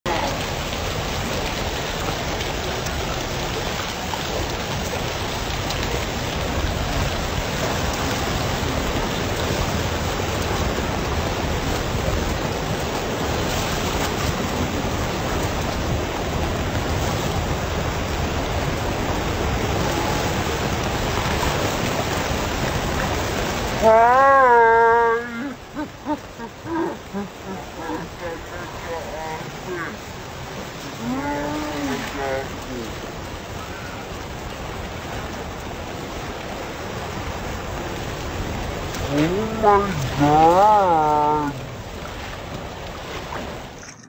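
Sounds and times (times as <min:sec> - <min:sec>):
heavy rain falling: 0:00.0 - 0:43.8.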